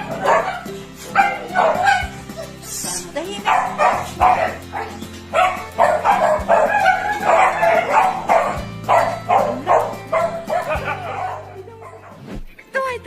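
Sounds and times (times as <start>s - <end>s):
dog barking rapidly: 0.0s - 2.5s, 3.4s - 12.2s.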